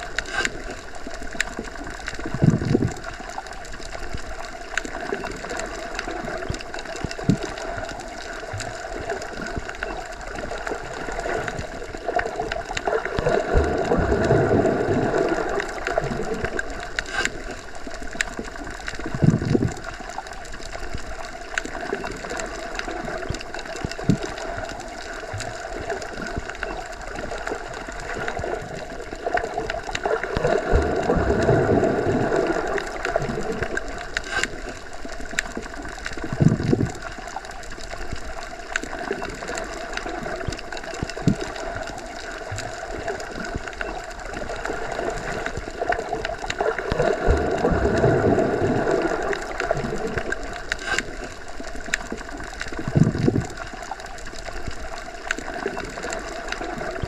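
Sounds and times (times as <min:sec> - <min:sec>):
faint clicks: 0:00.0 - 0:48.4, 0:49.0 - 0:57.0
underwater water noise: 0:00.0 - 0:57.0.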